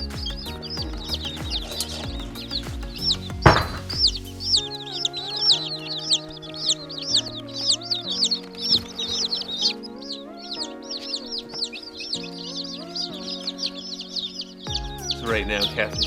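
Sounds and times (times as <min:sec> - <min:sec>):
background music: 0:00.0 - 0:16.0
chicks peeping: 0:00.0 - 0:16.0.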